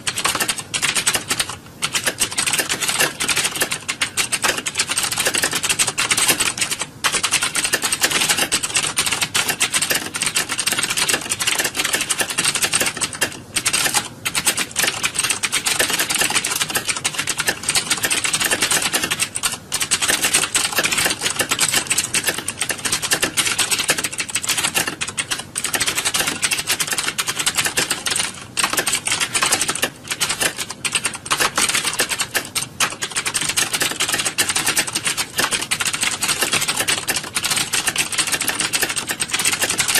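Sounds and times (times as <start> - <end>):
many keyboards clacking: 0.0 - 39.9.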